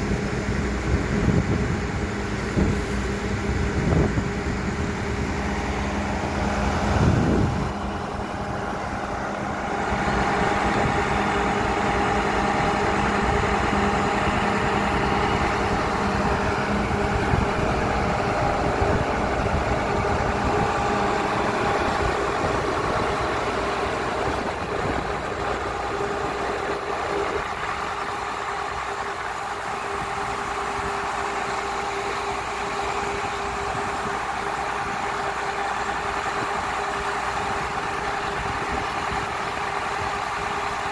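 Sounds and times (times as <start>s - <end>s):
drilling rig engine running: 0.0s - 40.9s.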